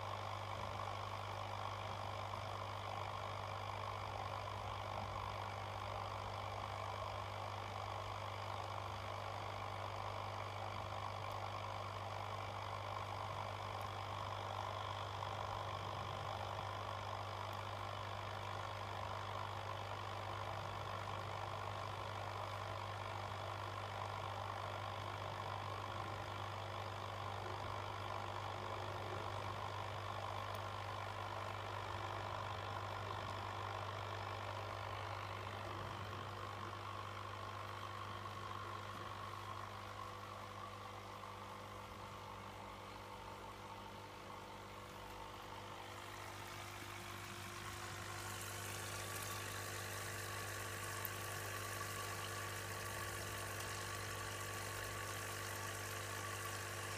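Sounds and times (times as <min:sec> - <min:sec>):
mechanical hum: 0:00.0 - 0:56.9.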